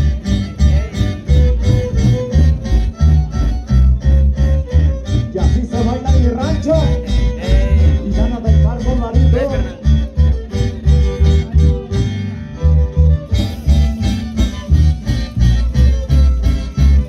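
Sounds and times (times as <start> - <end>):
drums keeping steady beat: 0.0 - 17.0
electric bass: 0.0 - 17.0
guitars: 0.0 - 17.0
violins playing sliding melody: 0.0 - 17.0.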